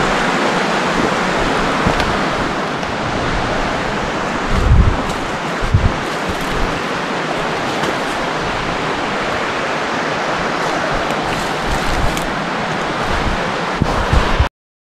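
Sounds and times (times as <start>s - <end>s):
creek water rushing: 0.0s - 14.5s
wind thuds on microphone: 0.8s - 9.5s, 10.4s - 14.5s.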